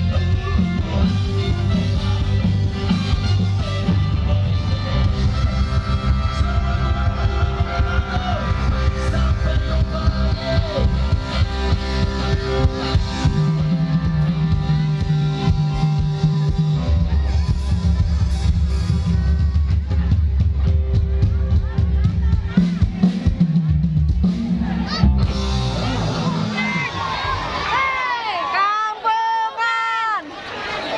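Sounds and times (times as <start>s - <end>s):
drum kit: 0.0s - 27.2s
bass guitar: 0.0s - 28.1s
electric guitars: 0.0s - 28.3s.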